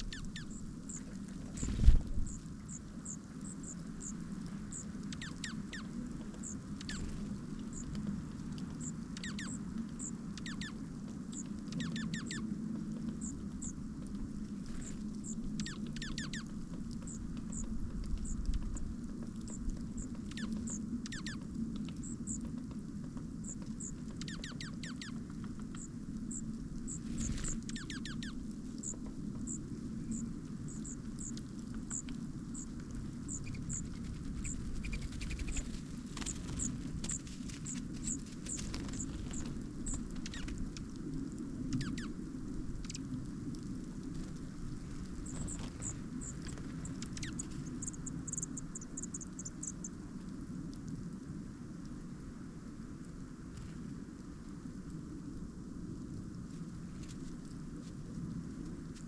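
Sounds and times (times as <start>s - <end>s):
small birds chip notes: 0.0s - 50.0s
steady low rumble: 0.0s - 59.0s.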